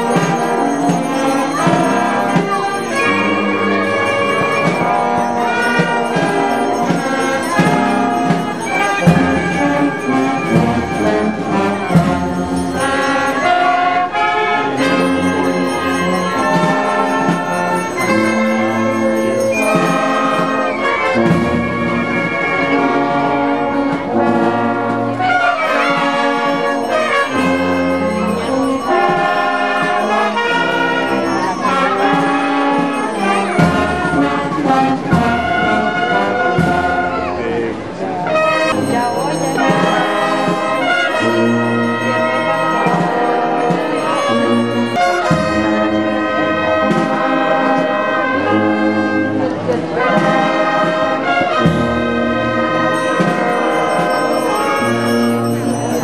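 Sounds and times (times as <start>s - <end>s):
brass band playing slow music: 0.0s - 56.0s.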